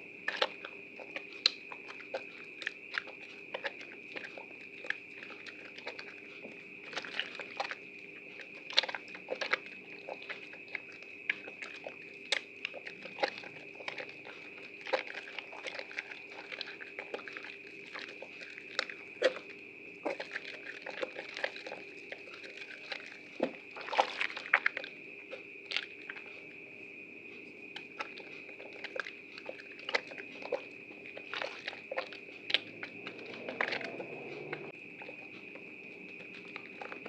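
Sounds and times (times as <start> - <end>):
wet soap squishing and crackling: 0.0 - 37.0.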